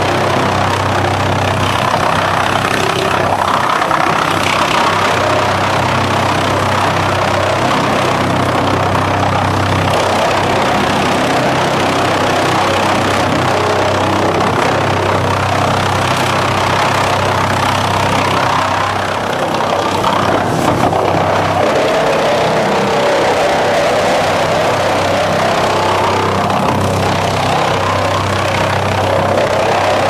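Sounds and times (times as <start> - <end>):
low hum: 0.0 - 30.0
wood chipper chipping wood: 0.0 - 30.0.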